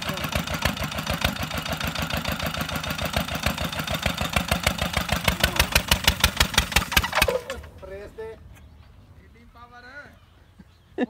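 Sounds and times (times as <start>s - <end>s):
diesel engine running: 0.0s - 8.9s.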